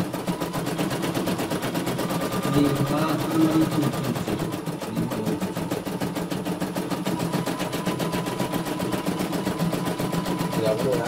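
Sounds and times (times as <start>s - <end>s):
embroidery machine needle clatter: 0.0s - 11.0s.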